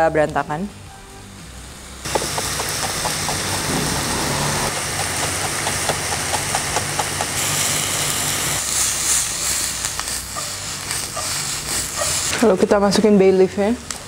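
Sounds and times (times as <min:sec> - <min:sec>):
onion sizzling in pan: 0:01.5 - 0:14.0.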